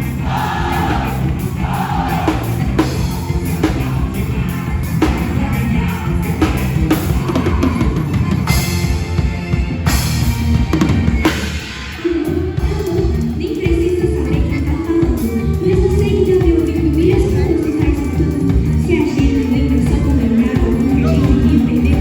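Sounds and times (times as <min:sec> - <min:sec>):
instrumental band music: 0:00.0 - 0:22.0.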